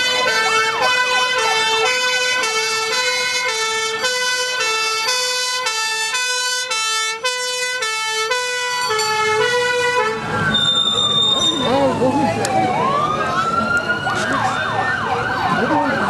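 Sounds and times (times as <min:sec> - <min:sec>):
two-tone siren: 0:00.0 - 0:16.0.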